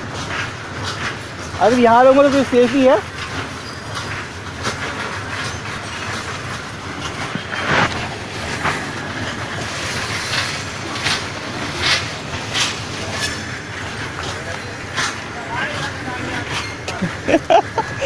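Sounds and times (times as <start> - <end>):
sharp wheel clacks: 0.0 - 17.1
train wheels rumbling on rail: 0.0 - 18.0.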